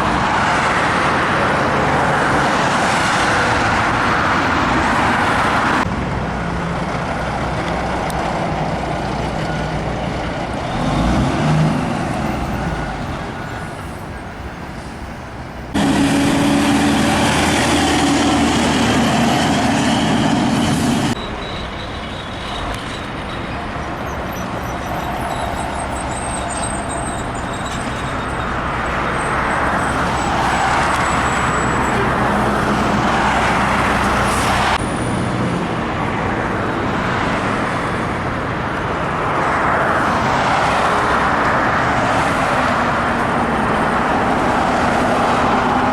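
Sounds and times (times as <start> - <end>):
truck engines passing: 0.0 - 45.9.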